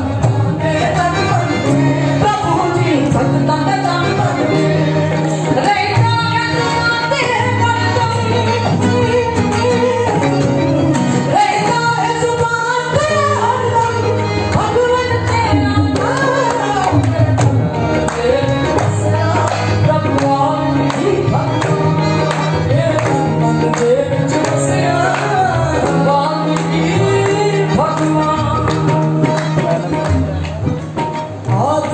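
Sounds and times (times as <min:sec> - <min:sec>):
woman singing devotional song: 0:00.0 - 0:30.0, 0:31.5 - 0:31.9.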